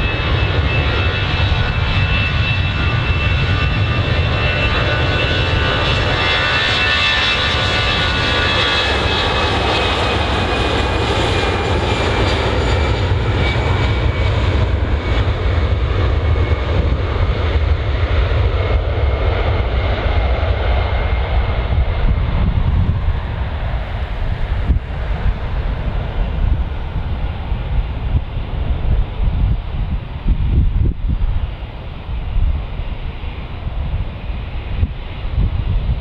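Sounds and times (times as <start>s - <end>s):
jet airliner engines: 0.0s - 36.0s.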